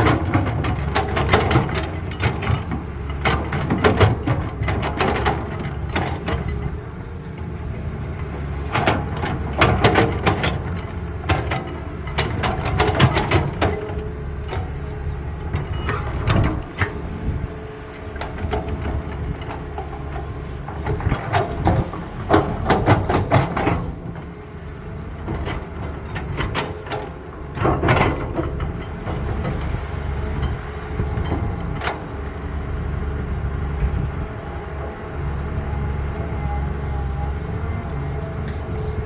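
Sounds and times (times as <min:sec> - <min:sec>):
diesel excavator engine running: 0:00.0 - 0:39.0.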